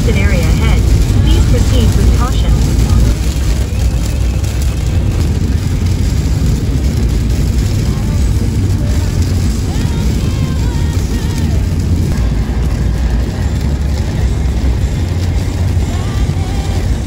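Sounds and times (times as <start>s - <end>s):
truck cabin road rumble: 0.0s - 17.0s.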